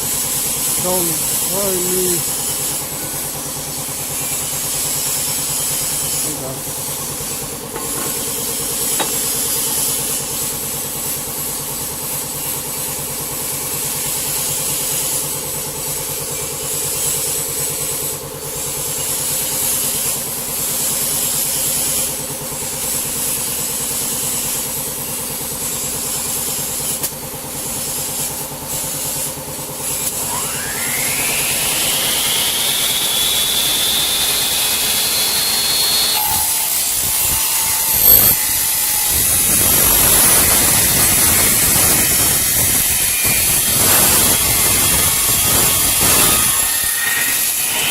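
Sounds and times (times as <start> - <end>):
cutting saw running: 0.0 - 47.9.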